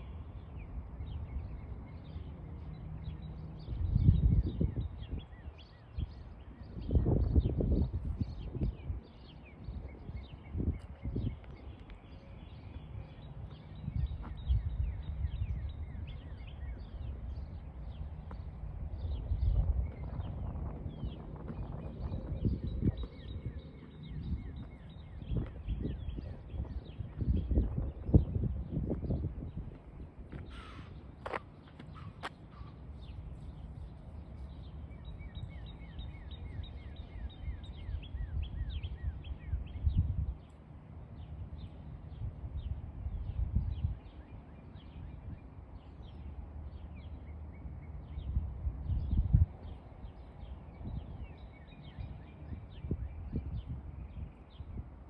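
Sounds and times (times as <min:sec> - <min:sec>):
birds chirping: 0:00.0 - 0:55.0
steady low rumble: 0:00.0 - 0:55.0.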